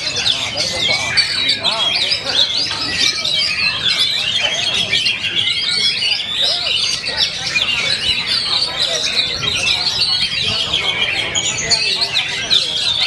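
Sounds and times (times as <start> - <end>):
birds whistling and trilling: 0.0 - 13.0
faint crowd voices: 0.0 - 13.0.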